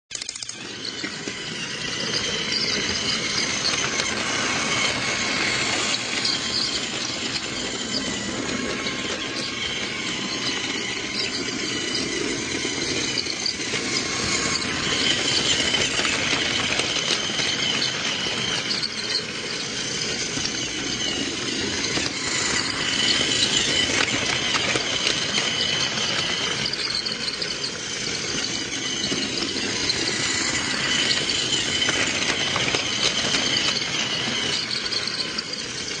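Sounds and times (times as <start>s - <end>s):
high squeal: 0.1s - 36.0s
toy train wheels rattling: 0.1s - 36.0s.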